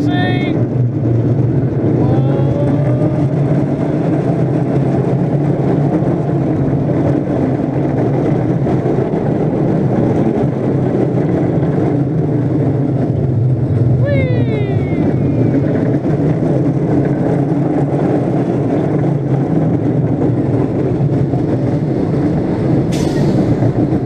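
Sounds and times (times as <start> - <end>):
roller coaster wheels rumbling: 0.0 - 24.0.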